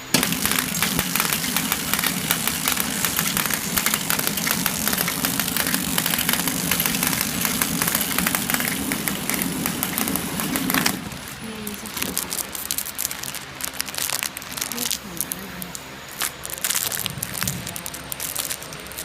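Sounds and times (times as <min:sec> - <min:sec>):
crackling hiss: 0:00.0 - 0:19.0
machine humming: 0:00.0 - 0:19.0.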